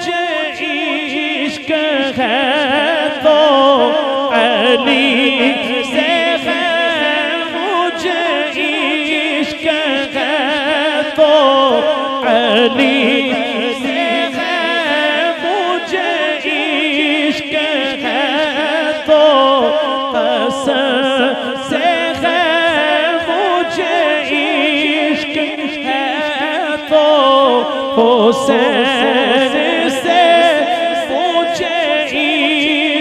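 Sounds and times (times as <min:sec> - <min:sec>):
man singing into a microphone: 0:00.0 - 0:33.0.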